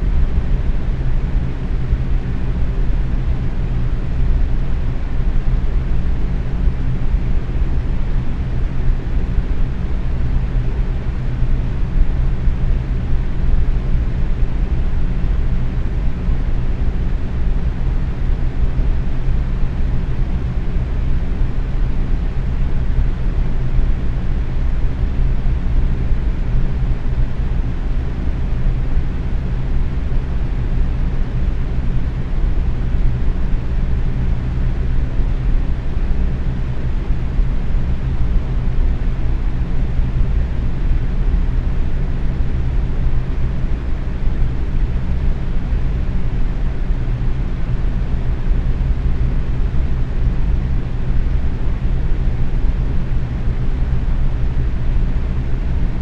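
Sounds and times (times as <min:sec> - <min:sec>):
box fan running: 0:00.0 - 0:56.0.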